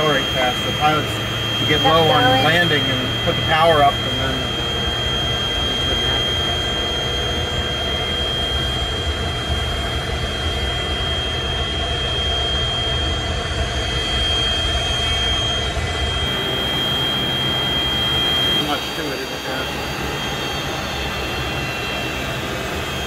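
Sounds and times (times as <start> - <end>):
high-pitched whine: 0.0 - 23.0
jet engine low rumble: 0.0 - 23.0.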